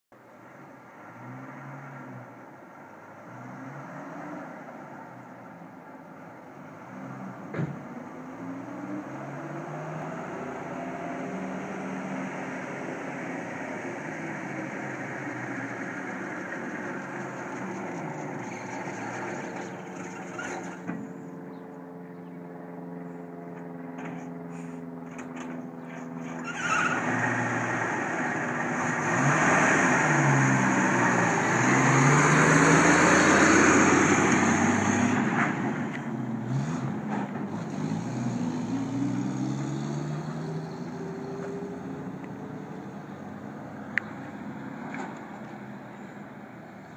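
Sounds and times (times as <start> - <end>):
truck engine passing by: 3.0 - 5.4, 6.5 - 21.6, 24.1 - 46.8.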